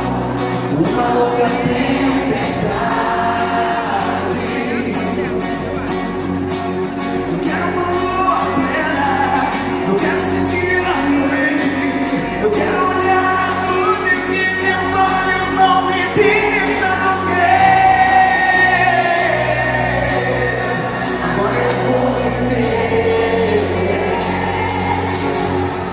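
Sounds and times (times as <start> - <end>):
person singing: 0.0 - 6.2, 7.3 - 25.9
acoustic guitars: 0.0 - 25.9
bass: 0.0 - 25.9.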